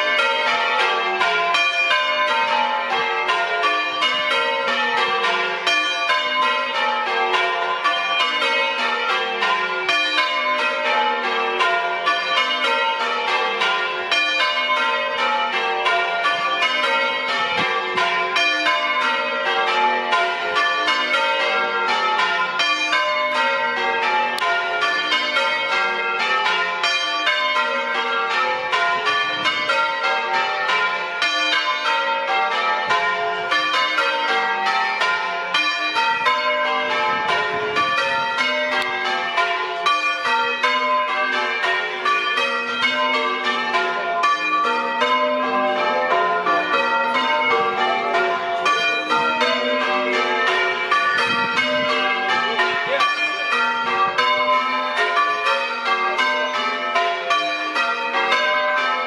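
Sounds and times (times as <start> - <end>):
church bells ringing: 0.0 - 59.0.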